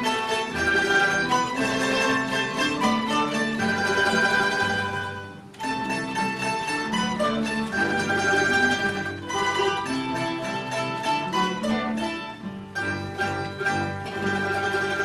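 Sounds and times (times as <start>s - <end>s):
mandolin and guitar ensemble: 0.0s - 15.0s.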